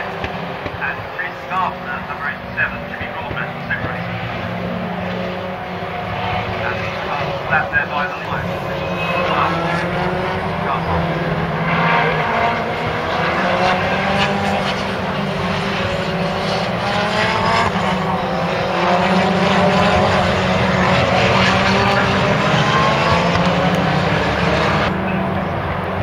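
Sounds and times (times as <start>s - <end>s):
race car engines accelerating past: 0.0s - 26.0s.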